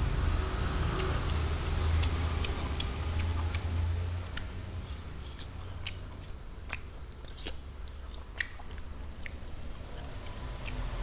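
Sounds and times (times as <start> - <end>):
steady low hum: 0.0 - 11.0
person chewing with wet smacks: 0.8 - 11.0.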